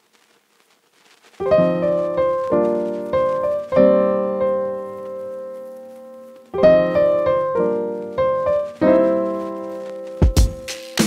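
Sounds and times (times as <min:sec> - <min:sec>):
piano chords: 0:01.4 - 0:11.0.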